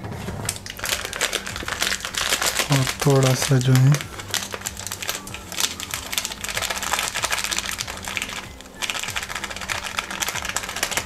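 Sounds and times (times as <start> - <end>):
plastic packet crinkling: 0.5 - 11.0.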